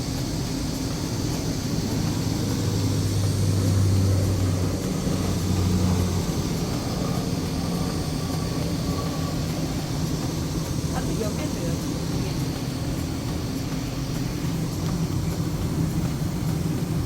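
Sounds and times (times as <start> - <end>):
low hum: 0.0 - 17.0
mechanical noise: 0.0 - 17.0.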